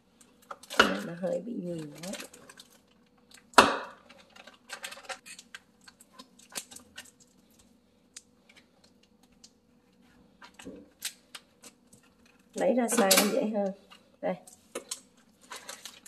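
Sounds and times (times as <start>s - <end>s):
plastic bag crinkling: 0.2s - 7.8s, 8.4s - 16.0s.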